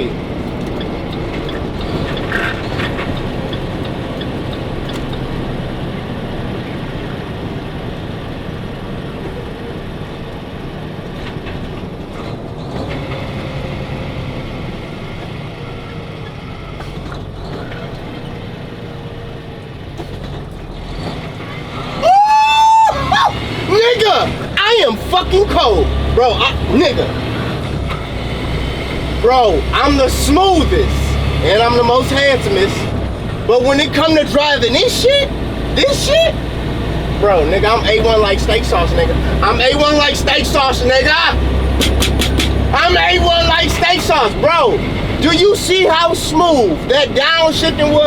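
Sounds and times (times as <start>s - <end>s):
truck engine and road noise: 0.0s - 48.0s.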